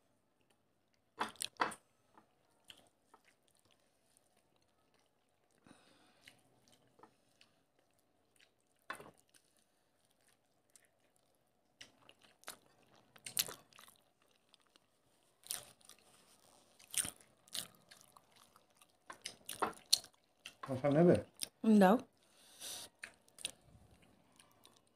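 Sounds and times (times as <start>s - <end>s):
chewing and lip smacks: 2.2s - 21.6s, 22.2s - 24.9s.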